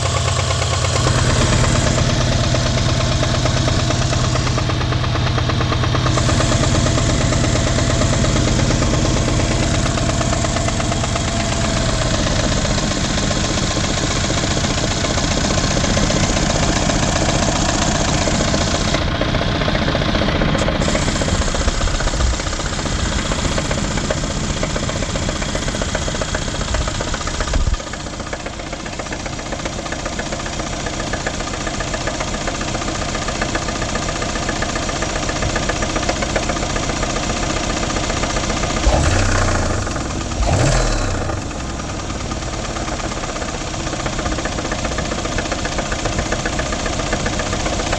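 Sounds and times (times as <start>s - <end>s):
engine idling with rapid knock: 0.0s - 47.9s.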